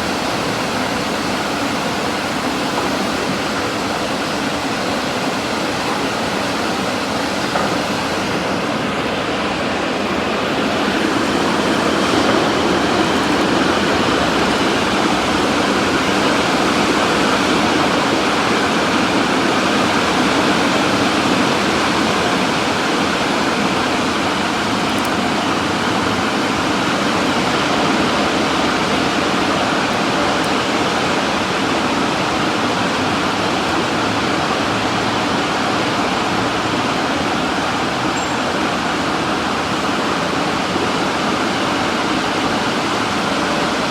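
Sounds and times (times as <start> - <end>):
car wash equipment rushing: 0.0 - 43.9.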